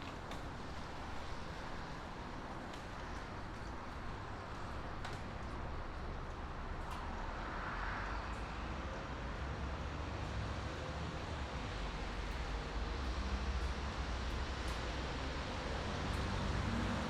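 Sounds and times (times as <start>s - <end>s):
highway traffic rumble: 0.0s - 17.0s.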